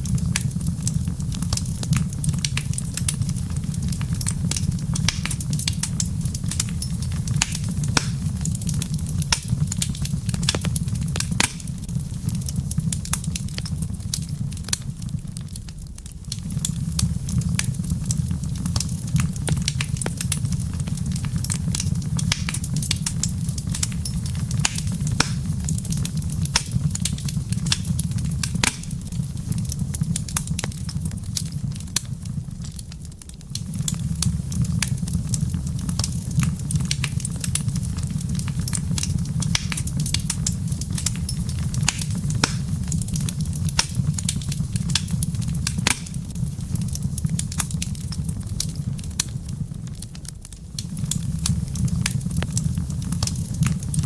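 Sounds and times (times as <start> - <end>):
low rumble of fire: 0.0 - 54.0
wood fire crackling and popping: 0.0 - 54.0.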